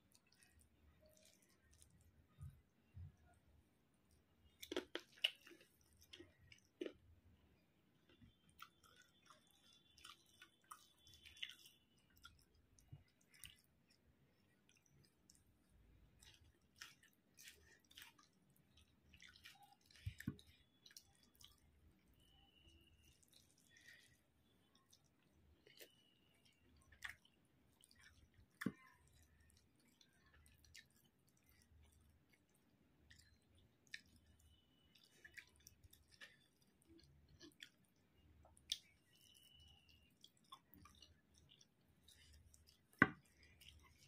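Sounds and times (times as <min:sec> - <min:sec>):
quiet chewing and mouth smacks: 0:00.0 - 0:44.0
fingers squelching rice: 0:08.1 - 0:44.0.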